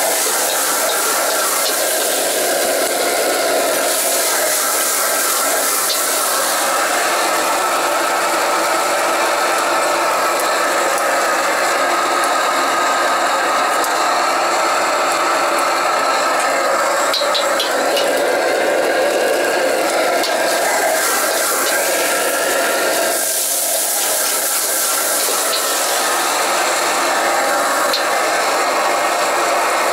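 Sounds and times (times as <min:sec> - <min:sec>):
gas wok burner roaring: 0:00.0 - 0:29.9
vegetables frying in wok: 0:00.0 - 0:29.9.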